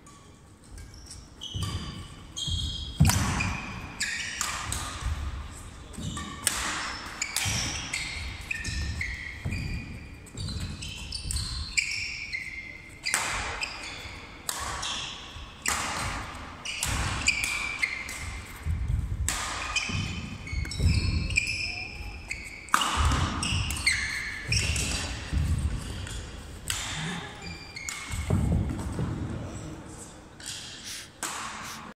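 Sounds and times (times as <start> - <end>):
rackets hitting shuttlecock: 0.1 - 29.4, 30.4 - 31.9.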